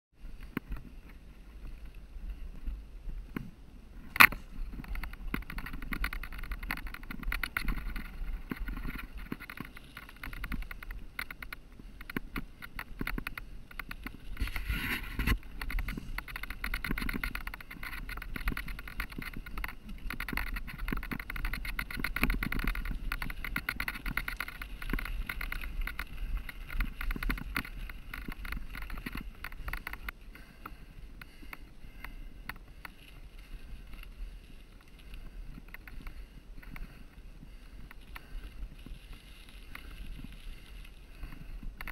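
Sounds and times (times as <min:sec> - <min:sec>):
wind rumble on microphone: 0:00.1 - 0:41.9
bike rattling over stones: 0:00.2 - 0:41.9.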